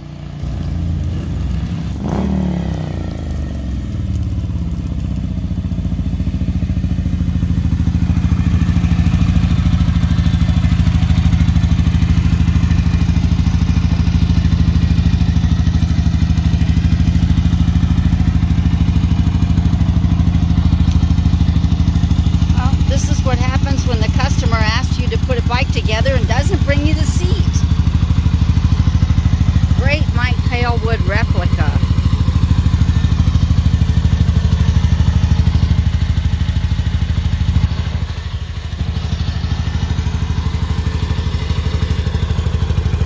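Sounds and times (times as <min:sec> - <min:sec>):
motorcycle engine idling: 0:00.0 - 0:43.0.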